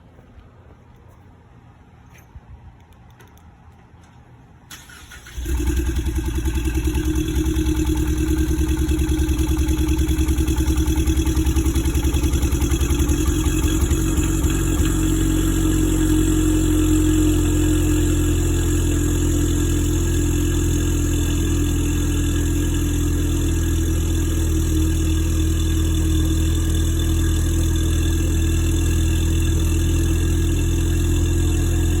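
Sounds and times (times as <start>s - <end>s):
car engine starting: 4.7s - 32.0s
engine idling with misfire: 4.7s - 32.0s.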